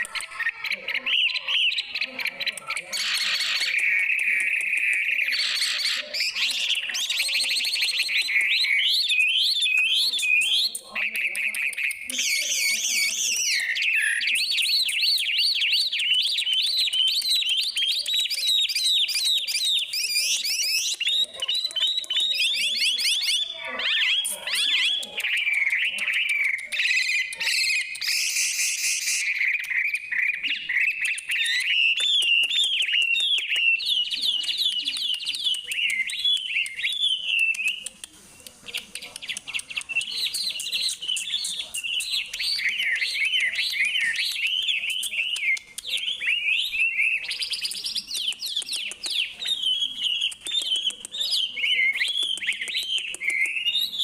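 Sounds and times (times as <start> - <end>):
songbird chirping and trilling: 0.0 - 54.0.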